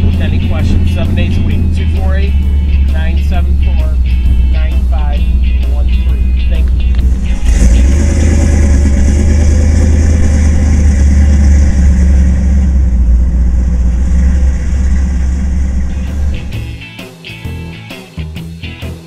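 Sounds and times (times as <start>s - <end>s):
car engine rumbling: 0.0s - 16.9s.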